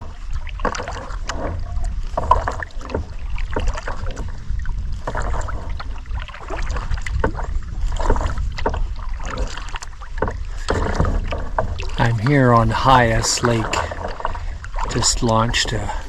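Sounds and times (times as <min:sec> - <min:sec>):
paddle strokes splashing in water: 0:00.0 - 0:16.0.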